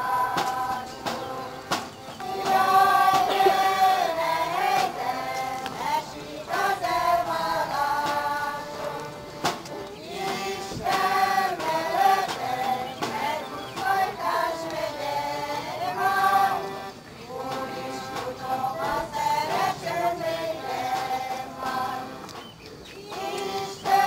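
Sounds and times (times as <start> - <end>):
group singing a folk song: 0.0 - 24.0.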